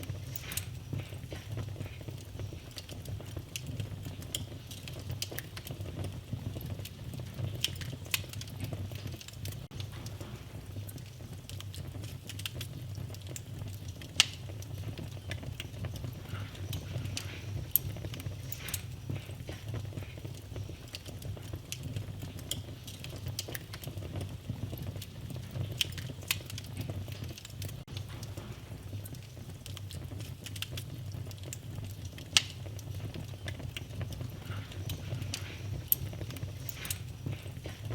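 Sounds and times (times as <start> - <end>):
fire crackling and popping: 0.0 - 37.9
fire rumbling: 0.0 - 37.9.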